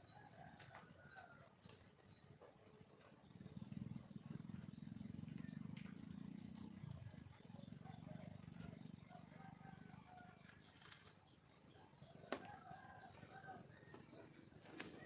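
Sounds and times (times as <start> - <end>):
hen purring rumble: 0.0 - 15.0
small birds chirping: 0.0 - 15.0.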